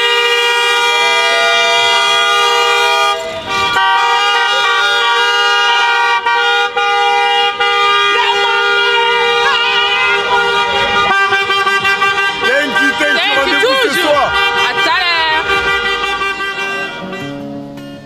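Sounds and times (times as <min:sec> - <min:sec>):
car horn blaring: 0:00.0 - 0:18.0.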